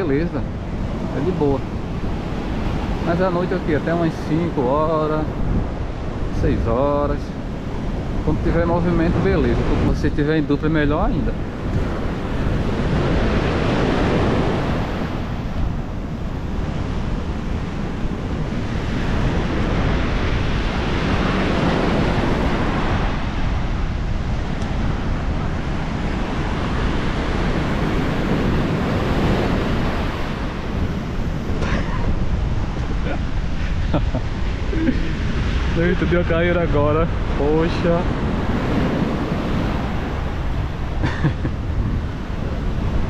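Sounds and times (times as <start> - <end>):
sea surf breaking on beach: 0.0 - 43.0
wind buffeting microphone: 0.0 - 43.0.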